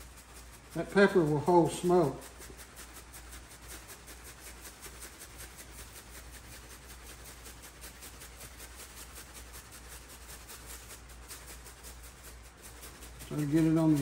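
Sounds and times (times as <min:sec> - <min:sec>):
granules rattling in shaker bottle: 0:00.0 - 0:14.0
seasoning pattering onto meat: 0:00.0 - 0:14.0.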